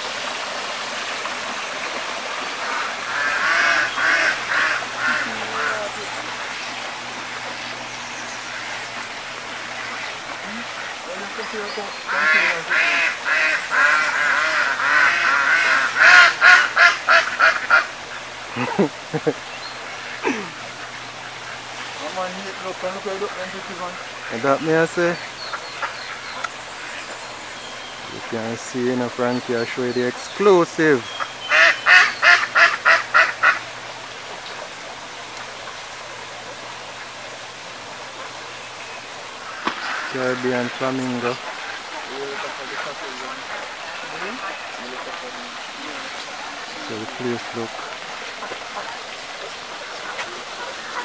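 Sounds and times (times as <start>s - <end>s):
steady low hiss: 0.0s - 51.0s
ducks quacking: 0.9s - 51.0s.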